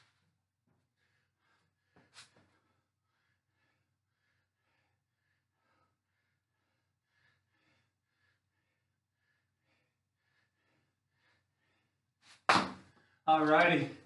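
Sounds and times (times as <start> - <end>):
man breathing rhythmically: 0.0 - 12.2.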